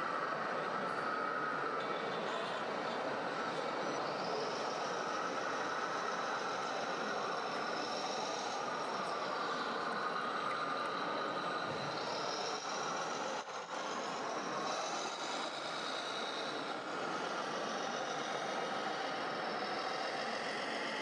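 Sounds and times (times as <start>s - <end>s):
small motors and gears whining: 0.0s - 21.0s.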